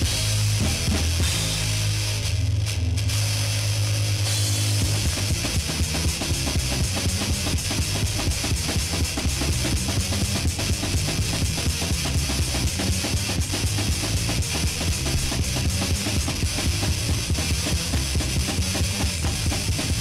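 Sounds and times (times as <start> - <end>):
rapid drumming: 0.0 - 2.3, 4.3 - 20.0
heavy metal band playing: 0.0 - 20.0.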